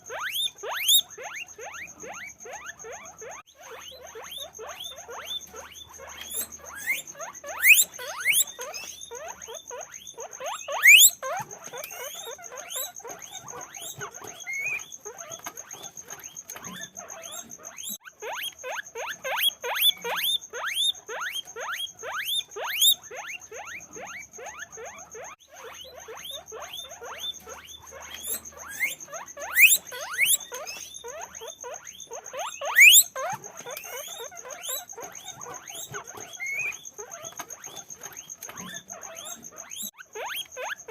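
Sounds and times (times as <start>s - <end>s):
guinea pigs squeaking: 0.0s - 40.9s.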